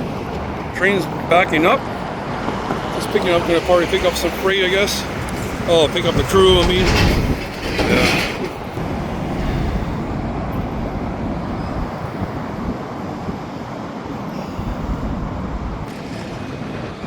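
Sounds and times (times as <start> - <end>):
freight train moving slowly: 0.0 - 15.8
road traffic rumble: 0.0 - 17.0
wind buffeting microphone: 0.0 - 17.0.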